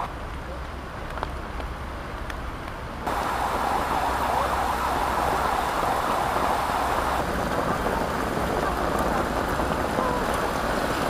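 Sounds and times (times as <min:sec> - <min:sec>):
heavy rain on standing water: 0:00.0 - 0:11.0.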